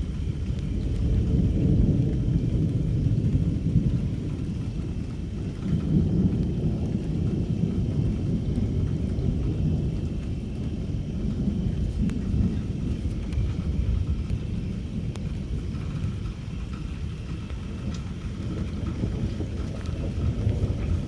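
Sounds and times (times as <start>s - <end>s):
rain falling: 0.0s - 21.0s
thunder rumbling: 0.0s - 21.0s.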